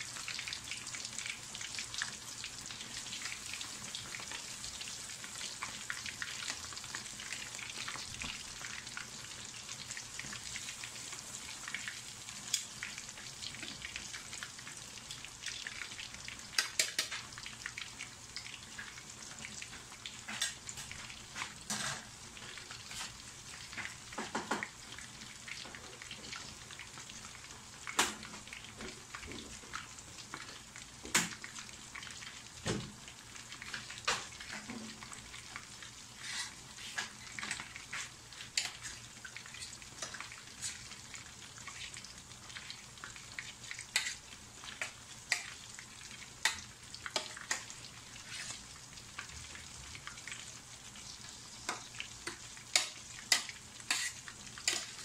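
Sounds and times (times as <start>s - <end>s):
chicken sizzling in hot oil: 0.0s - 55.0s
oil crackling and popping: 0.0s - 55.0s.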